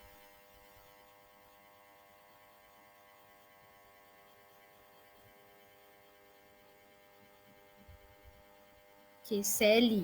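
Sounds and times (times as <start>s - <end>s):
faint electrical hum and hiss: 0.0s - 10.0s.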